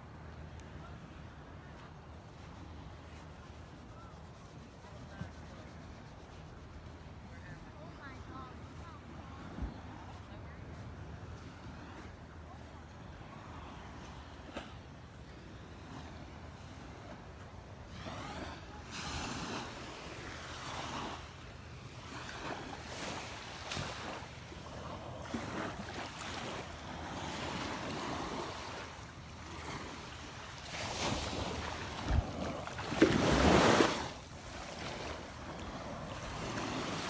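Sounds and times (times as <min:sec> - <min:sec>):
small waves lapping on sand: 0:00.0 - 0:37.0.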